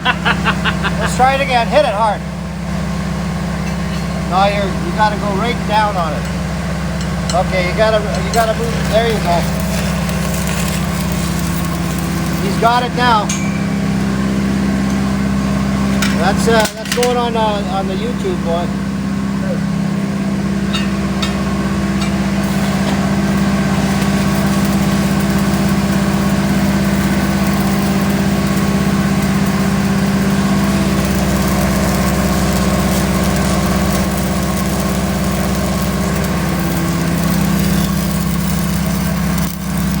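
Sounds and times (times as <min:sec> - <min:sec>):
engine drone: 0:00.0 - 0:16.5, 0:17.2 - 0:40.0
welding arc crackling: 0:04.4 - 0:17.4, 0:20.7 - 0:40.0.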